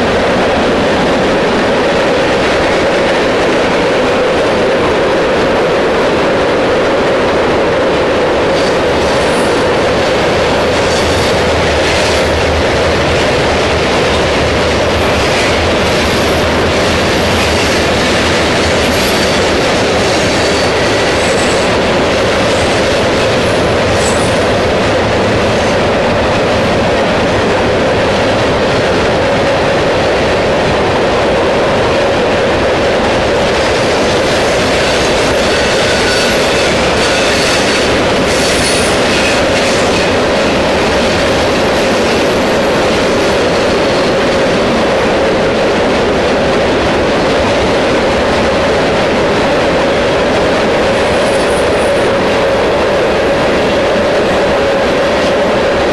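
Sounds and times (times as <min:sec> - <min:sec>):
train wheels rumbling over rails: 0:00.0 - 0:55.9.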